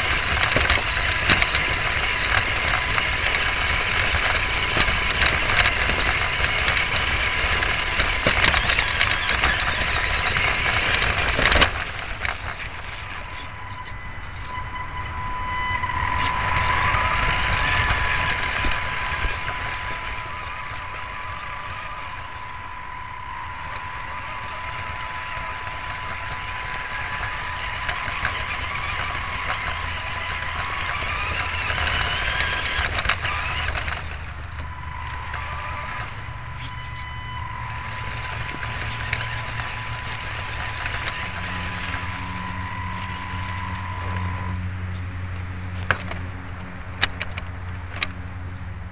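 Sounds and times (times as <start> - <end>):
chassis rattling on rough ground: 0.0 - 48.9
rc car motor whining: 0.0 - 48.9.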